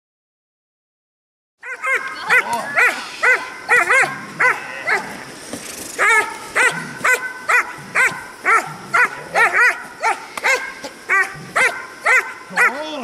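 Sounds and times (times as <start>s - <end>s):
puppy barking: 1.6s - 5.2s, 6.0s - 13.0s.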